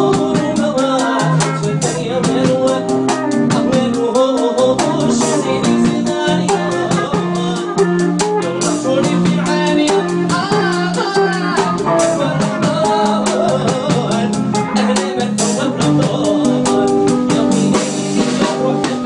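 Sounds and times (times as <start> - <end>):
fast steady percussion: 0.0 - 19.0
held instrumental notes: 0.0 - 19.0
man singing into a microphone: 0.0 - 19.0.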